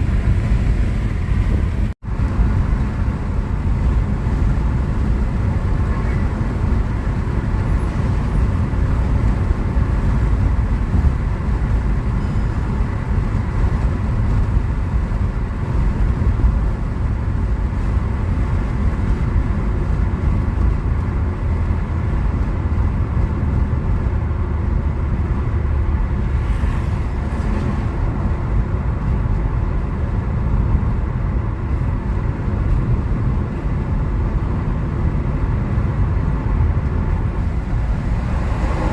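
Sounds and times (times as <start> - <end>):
tyre road noise: 0.0 - 38.9
wind rushing into car: 0.0 - 38.9.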